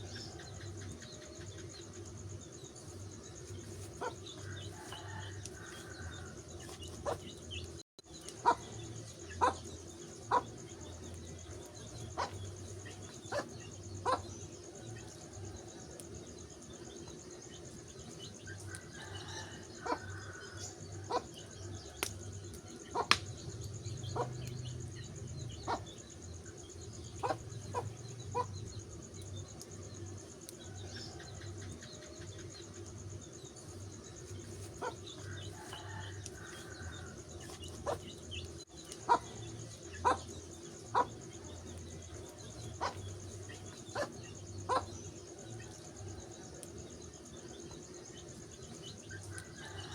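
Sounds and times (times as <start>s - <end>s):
wood fire crackling: 0.1s - 20.6s, 21.2s - 44.4s.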